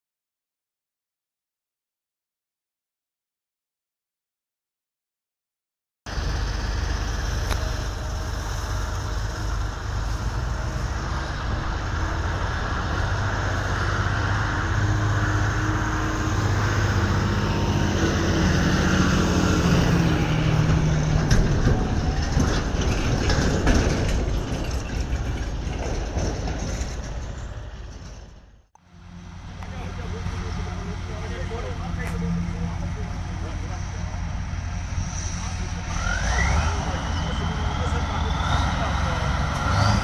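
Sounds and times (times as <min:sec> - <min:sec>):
diesel tractor engine running: 0:06.1 - 0:40.0.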